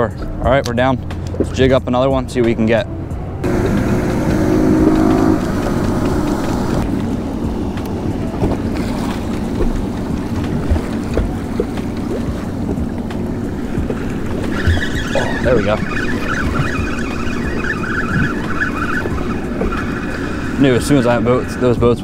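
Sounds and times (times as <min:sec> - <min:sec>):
choppy water: 0:00.0 - 0:22.0
motorboats passing: 0:00.0 - 0:22.0
steady engine hum: 0:00.0 - 0:22.0
wind on microphone: 0:03.4 - 0:22.0.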